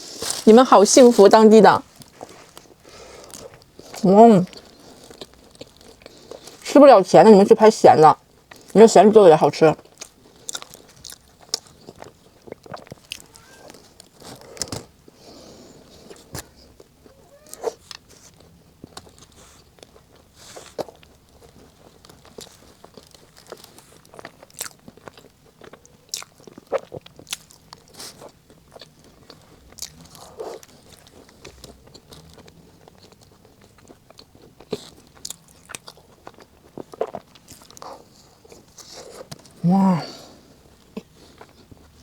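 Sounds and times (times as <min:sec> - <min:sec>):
chewing: 0:01.8 - 0:06.7, 0:08.2 - 0:08.8, 0:09.8 - 0:42.0.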